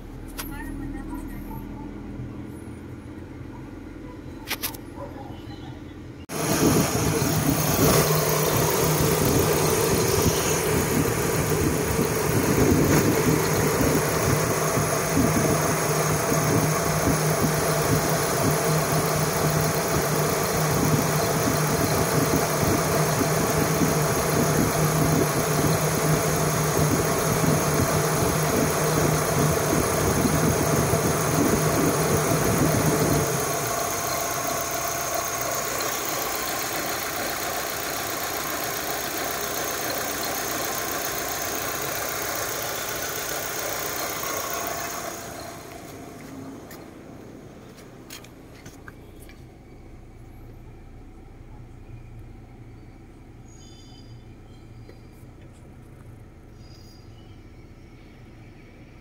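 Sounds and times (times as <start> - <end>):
car engine idling: 6.3 - 56.8.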